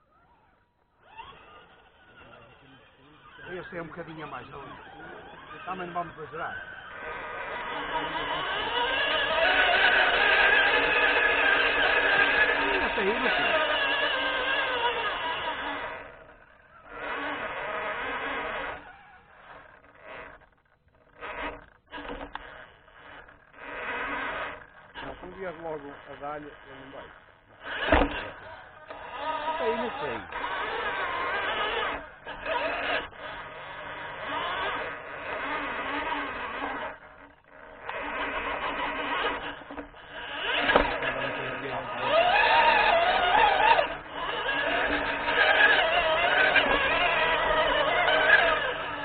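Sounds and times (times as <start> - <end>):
toy car motor and gears whining: 0.0 - 49.0.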